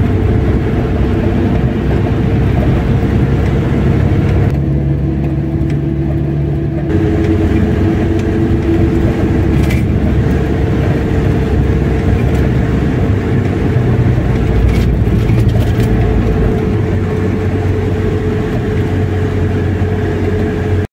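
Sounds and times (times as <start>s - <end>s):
car engine and road hum: 0.0s - 20.9s.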